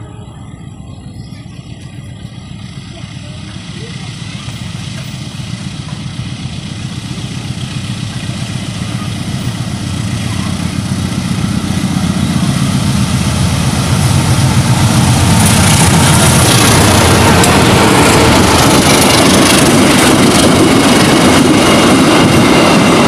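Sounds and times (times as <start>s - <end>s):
locomotive diesel engine rumbling: 0.0s - 23.0s
wheels hissing on rail: 0.0s - 23.0s.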